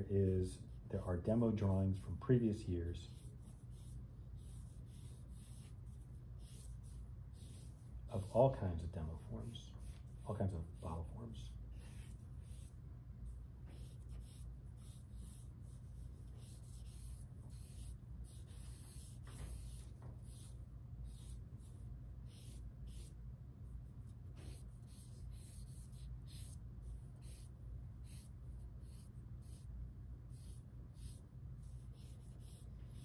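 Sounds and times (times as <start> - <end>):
low steady hum: 0.0 - 33.0
pencil scratching on paper: 3.1 - 33.0.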